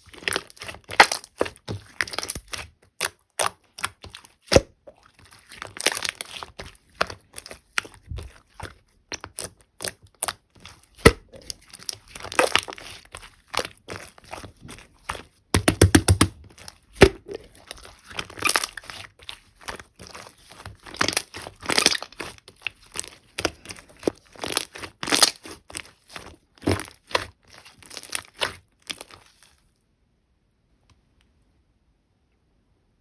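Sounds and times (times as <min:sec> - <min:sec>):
slime squelching and popping: 0:00.0 - 0:29.6.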